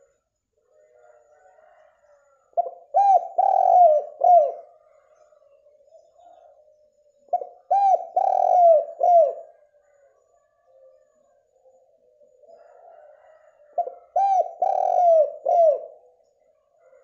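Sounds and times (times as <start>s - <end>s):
dove cooing: 0.7s - 17.0s.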